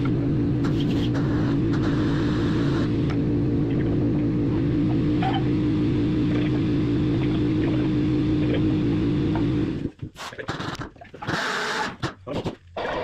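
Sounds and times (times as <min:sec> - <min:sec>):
electric hoist motor humming: 0:00.0 - 0:12.0.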